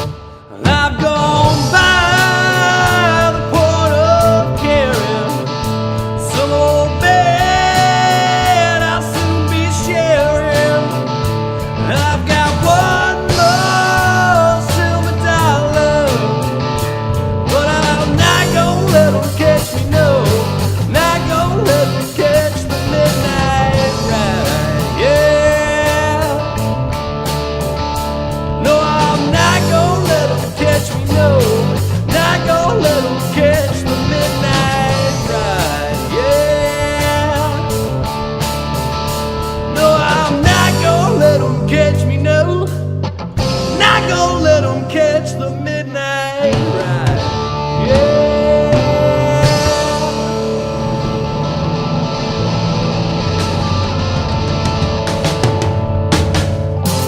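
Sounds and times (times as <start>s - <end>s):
lead guitar bending notes: 0.0s - 57.0s
rock band playing: 0.0s - 57.0s.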